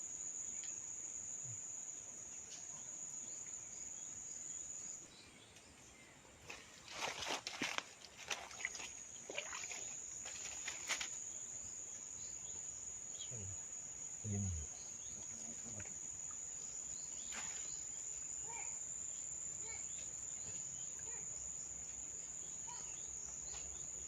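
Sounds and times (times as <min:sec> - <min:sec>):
high-pitched insect trill: 0:00.0 - 0:05.2, 0:06.9 - 0:24.0.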